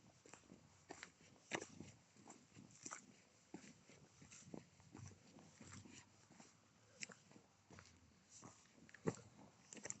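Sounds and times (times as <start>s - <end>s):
footsteps crunching on gravel: 0.0s - 10.0s.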